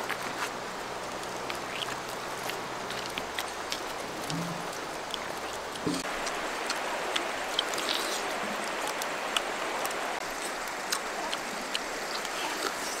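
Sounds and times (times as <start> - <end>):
pineapple being bitten and chewed: 0.0 - 13.0
shallow river running: 0.0 - 13.0.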